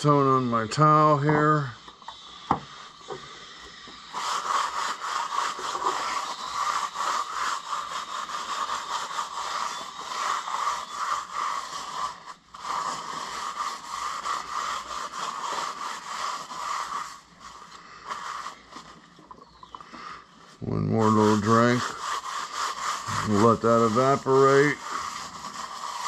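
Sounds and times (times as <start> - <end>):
towel scrubbing metal table: 0.0 - 19.2, 20.5 - 26.0.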